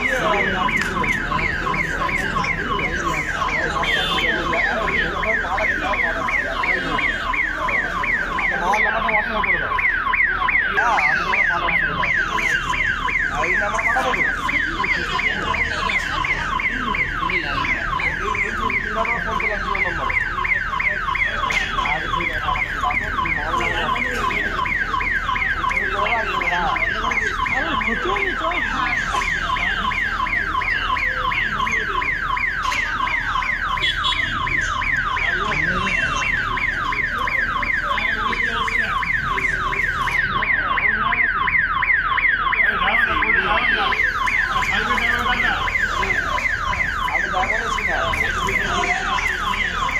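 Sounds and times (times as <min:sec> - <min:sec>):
electronic warning siren: 0:00.0 - 0:49.9.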